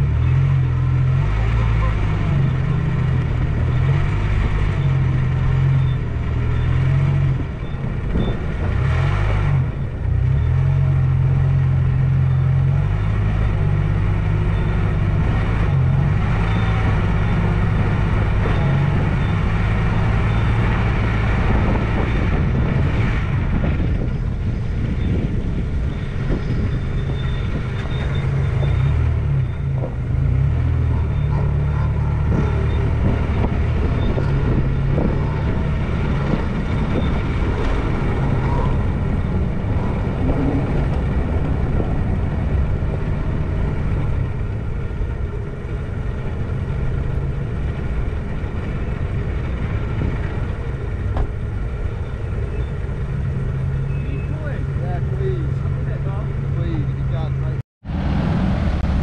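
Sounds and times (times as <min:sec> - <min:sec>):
truck engine droning: 0:00.0 - 0:59.0.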